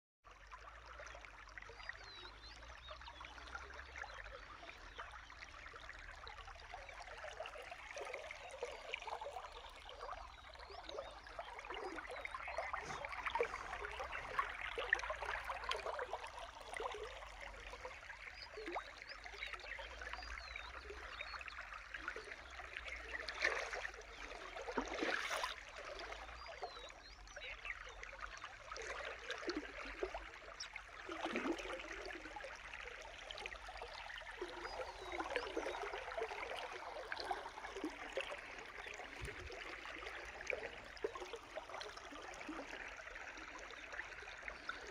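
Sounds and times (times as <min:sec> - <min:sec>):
stream trickling: 0:00.3 - 0:44.9.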